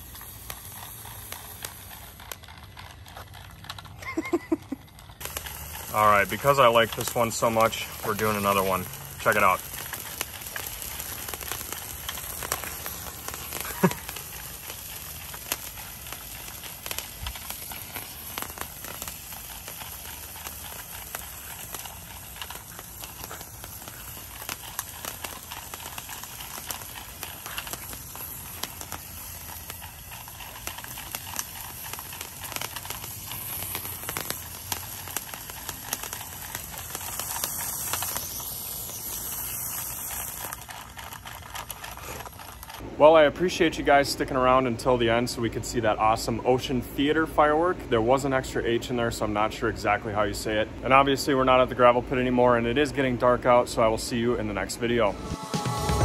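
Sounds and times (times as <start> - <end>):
firework fountain hissing and crackling: 0.0 - 56.0.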